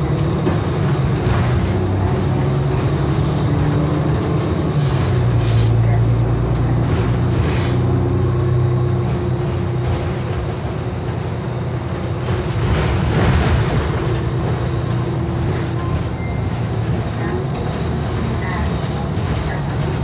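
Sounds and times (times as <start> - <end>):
bus engine hum: 0.0 - 20.0.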